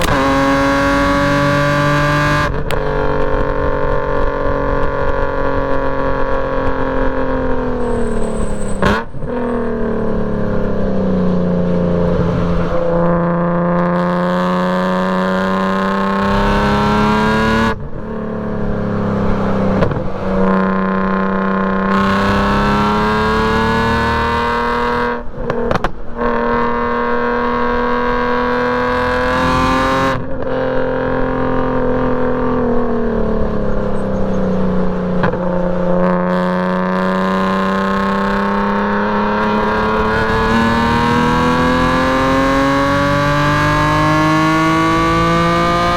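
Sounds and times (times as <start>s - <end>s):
car engine under hard driving: 0.0s - 45.9s.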